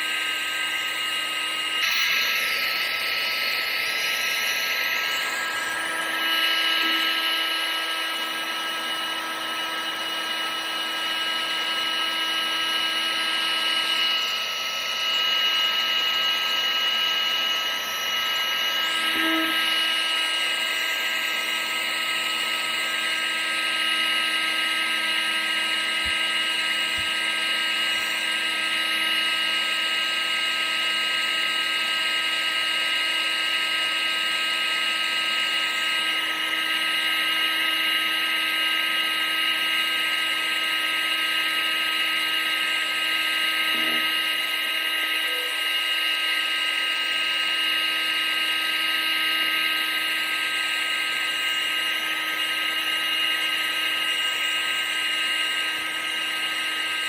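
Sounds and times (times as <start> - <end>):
vacuum cleaner motor running: 0.0 - 57.0.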